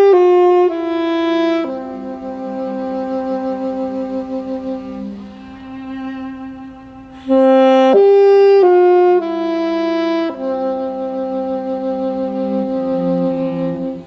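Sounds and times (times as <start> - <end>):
cello sustaining low notes: 0.0 - 14.0
saxophone playing long notes: 0.0 - 14.0.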